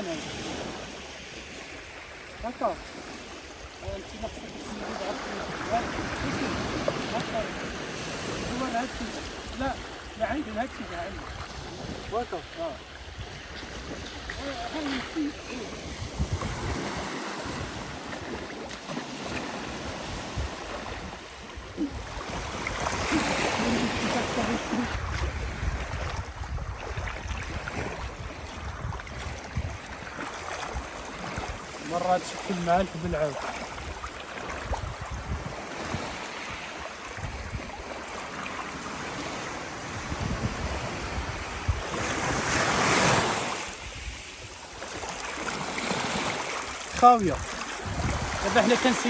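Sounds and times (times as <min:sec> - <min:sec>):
sea waves washing: 0:00.0 - 0:49.0
wind buffeting microphone: 0:03.8 - 0:31.8, 0:32.7 - 0:38.1, 0:38.8 - 0:45.2, 0:45.8 - 0:49.0.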